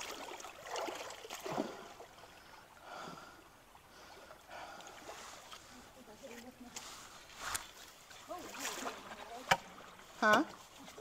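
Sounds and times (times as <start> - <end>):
creek water sloshing around legs: 0.0 - 11.0.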